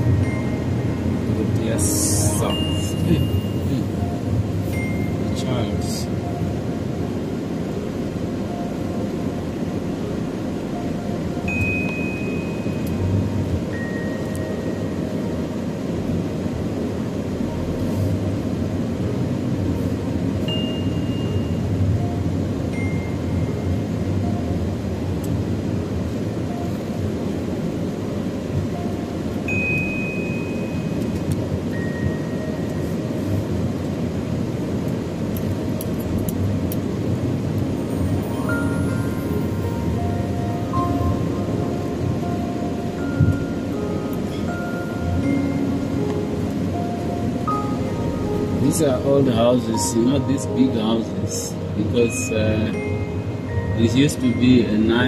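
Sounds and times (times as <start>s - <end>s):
road and engine noise in car: 0.0s - 55.0s
soft chime-like music: 0.0s - 55.0s.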